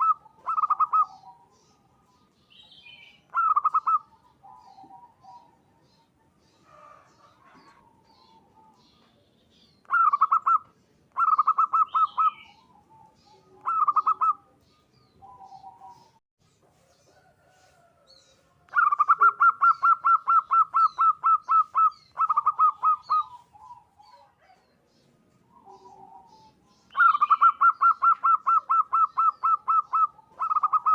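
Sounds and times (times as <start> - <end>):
dove cooing rapidly: 0.0 - 2.2, 3.1 - 9.0, 9.8 - 16.2, 18.7 - 30.9
small birds chirping: 0.0 - 30.9.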